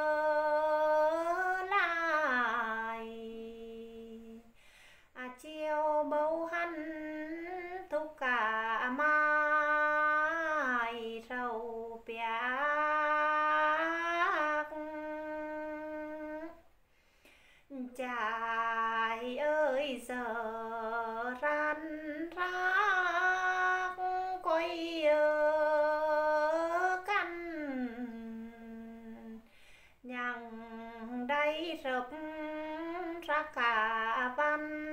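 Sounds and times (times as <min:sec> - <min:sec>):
woman singing unaccompanied: 0:00.0 - 0:16.7, 0:17.7 - 0:34.9.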